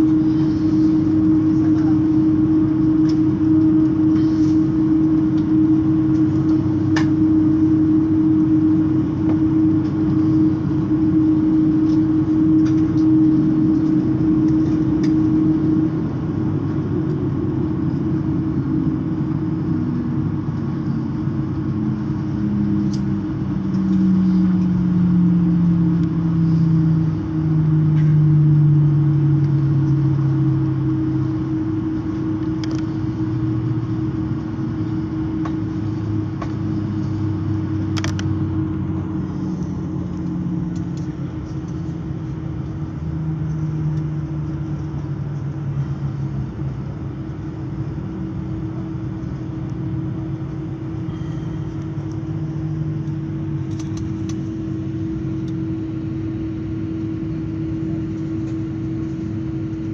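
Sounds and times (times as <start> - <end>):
aircraft cabin engine drone: 0.0 - 59.9.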